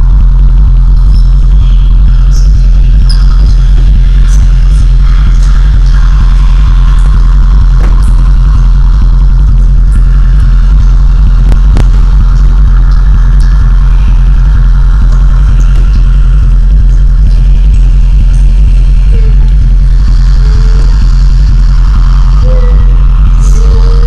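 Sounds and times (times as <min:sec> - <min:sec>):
low rumbling drone: 0:00.0 - 0:24.0.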